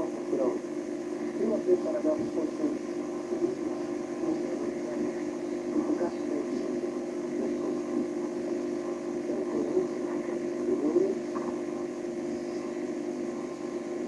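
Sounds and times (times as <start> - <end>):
television speaker hum: 0.0 - 14.0
faint indistinct voices: 1.2 - 13.6.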